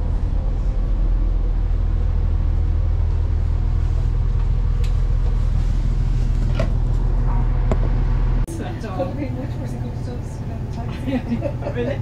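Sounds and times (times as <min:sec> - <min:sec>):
diesel train idling: 0:00.0 - 0:12.0.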